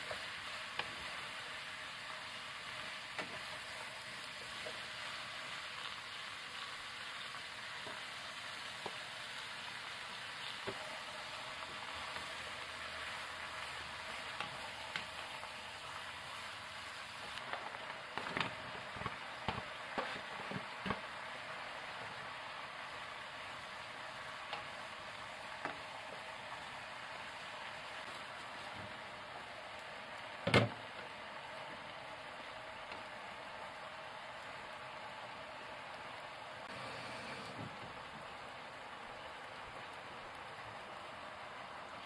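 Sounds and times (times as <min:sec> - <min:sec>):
food sizzling in a pot: 0:00.0 - 0:42.0.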